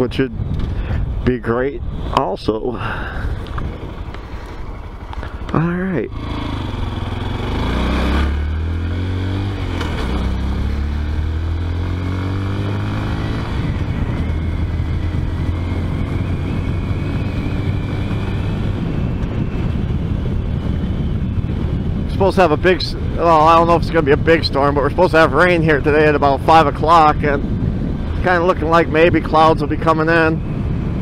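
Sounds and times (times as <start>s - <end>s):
motorcycle engine running: 2.9s - 31.0s.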